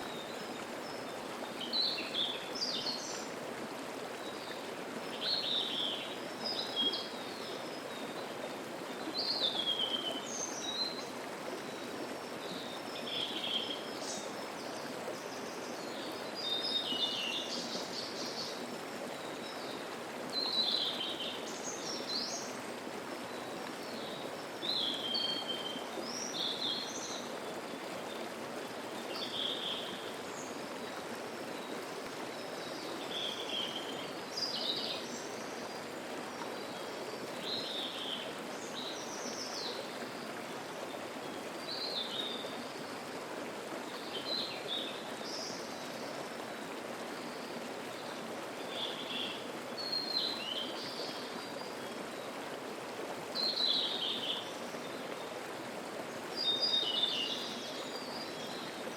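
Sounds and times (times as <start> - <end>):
mountain stream flowing: 0.0 - 58.9.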